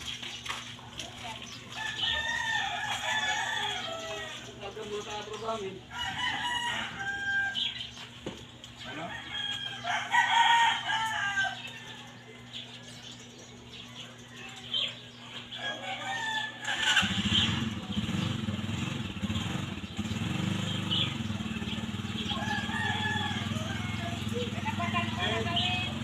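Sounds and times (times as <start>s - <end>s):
roosters crowing: 1.6s - 26.0s.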